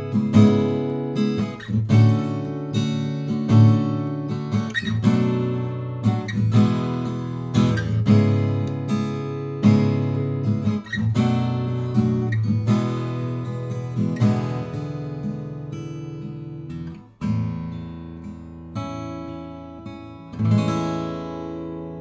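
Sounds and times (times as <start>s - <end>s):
acoustic guitar chords strummed: 0.0s - 22.0s.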